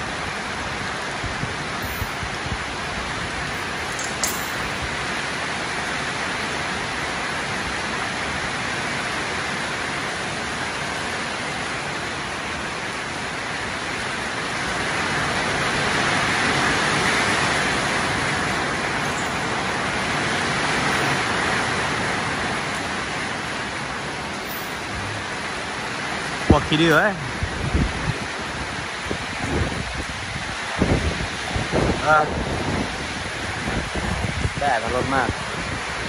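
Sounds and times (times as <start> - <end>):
rain on a metal roof: 0.0 - 36.0.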